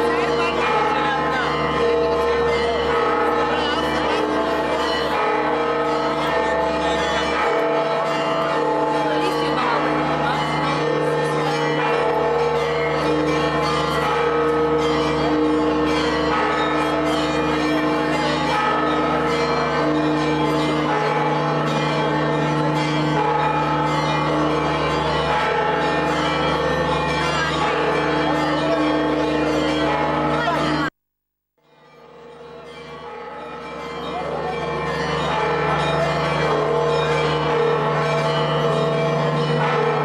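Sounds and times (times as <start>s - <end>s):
church bells pealing: 0.0s - 30.9s, 31.7s - 40.0s.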